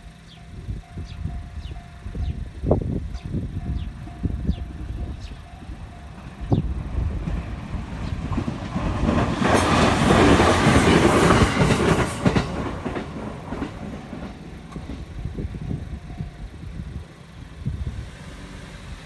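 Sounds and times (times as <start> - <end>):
train passing: 0.0 - 19.0
wheels clicking over rail joints: 0.1 - 17.3.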